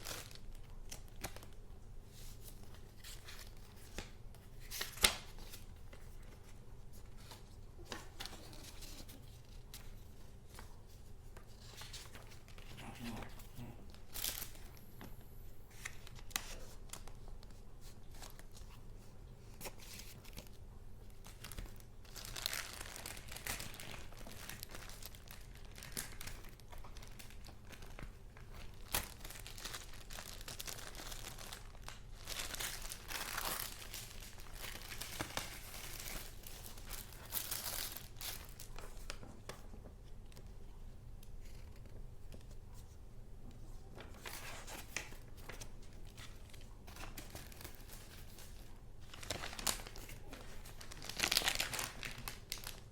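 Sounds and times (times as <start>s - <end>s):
paper rustling and crinkling: 0.0s - 14.9s, 15.7s - 52.9s.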